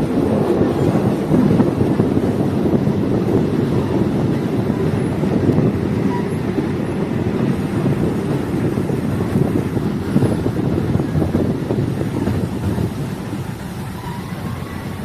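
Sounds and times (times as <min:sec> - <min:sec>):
railcar rumbling: 0:00.0 - 0:15.0
wind noise: 0:00.0 - 0:15.0.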